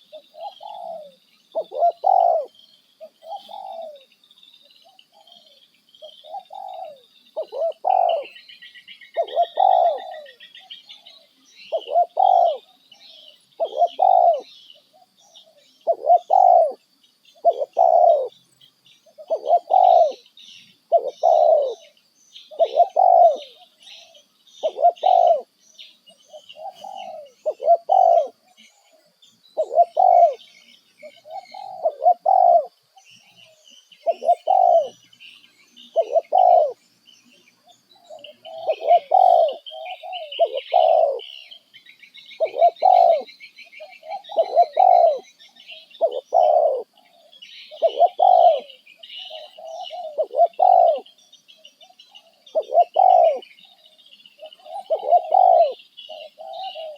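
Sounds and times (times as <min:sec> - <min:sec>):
small birds chirping faintly: 0:00.0 - 0:56.9.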